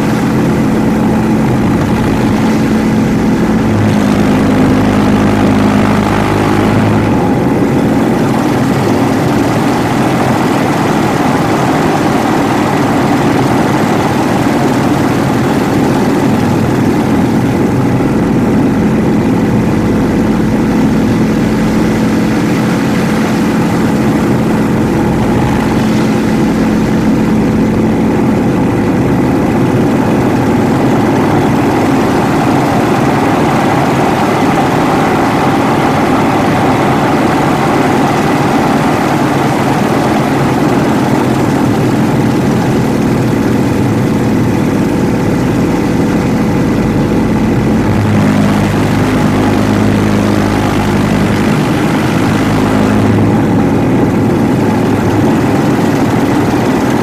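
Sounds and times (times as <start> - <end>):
propeller plane engine running: 0.0 - 57.0.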